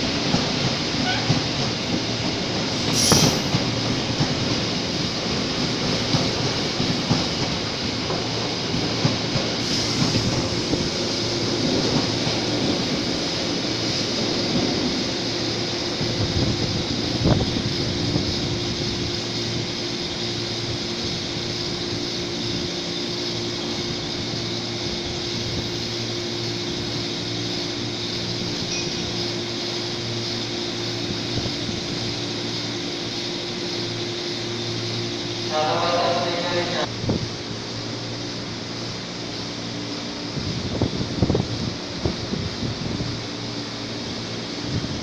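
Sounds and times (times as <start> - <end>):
train running on tracks: 0.0 - 45.0.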